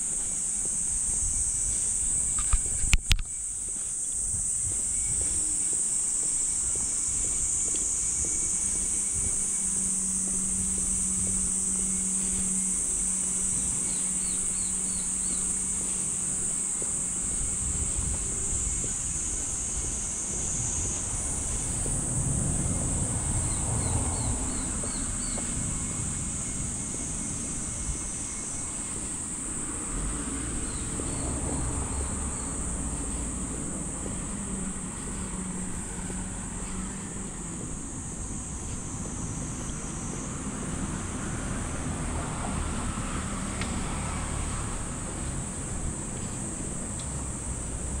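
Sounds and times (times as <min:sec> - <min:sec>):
cicadas droning: 0:00.0 - 0:48.0
distant traffic: 0:00.0 - 0:48.0
high-pitched insect buzz: 0:00.0 - 0:48.0
wind rumble on microphone: 0:00.0 - 0:48.0.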